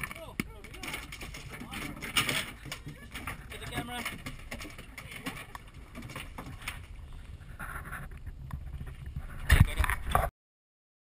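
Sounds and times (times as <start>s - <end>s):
water noise: 0.0s - 10.3s
wind: 0.0s - 10.3s.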